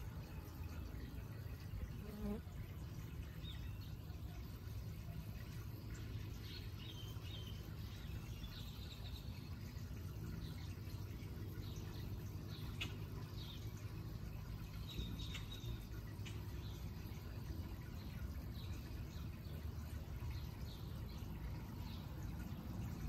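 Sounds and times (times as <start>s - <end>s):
hummingbird wings humming: 0.0s - 23.0s.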